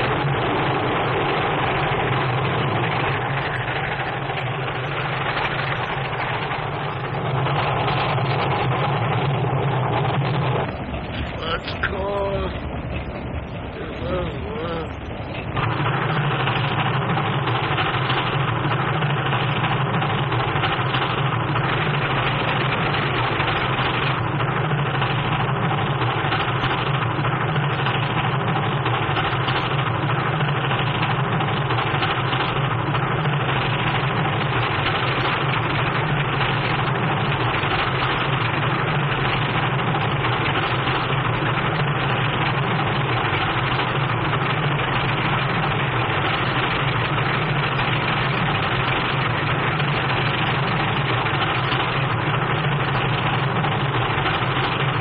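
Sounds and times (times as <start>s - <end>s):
steam train rumbling and clattering: 0.0s - 55.0s.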